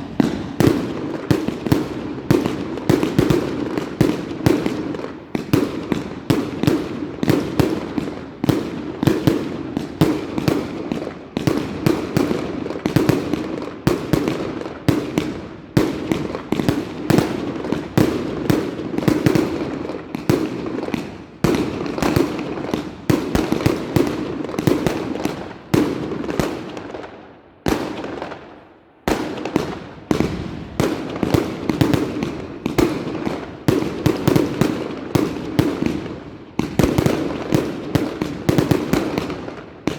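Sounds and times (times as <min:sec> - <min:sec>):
fireworks banging: 0:00.0 - 0:26.8, 0:29.1 - 0:39.9.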